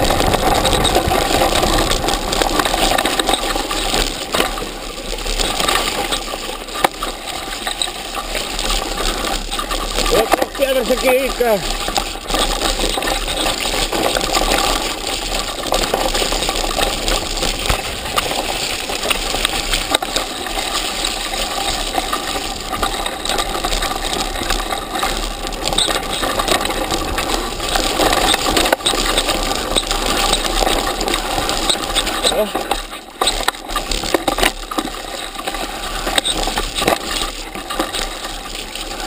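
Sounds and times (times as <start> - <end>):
bike clattering and rattling: 0.0 - 39.0
clicks and knocks from bike: 0.0 - 39.0
tyre noise: 0.0 - 39.0.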